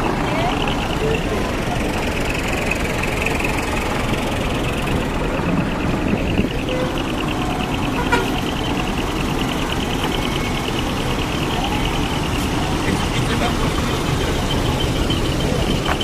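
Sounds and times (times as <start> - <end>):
truck engines rumbling: 0.0 - 16.0.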